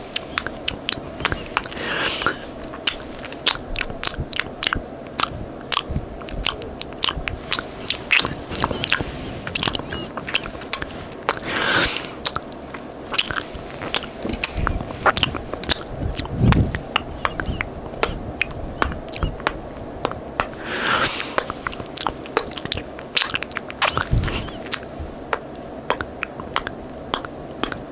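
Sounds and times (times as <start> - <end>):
wet kisses and lip smacks: 0.1 - 27.9.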